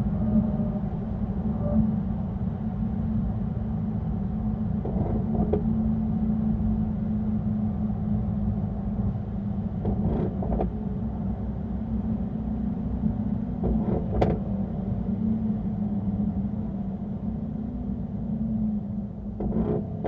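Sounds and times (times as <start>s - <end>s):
car engine droning: 0.0s - 20.0s
road rumble: 0.0s - 20.0s.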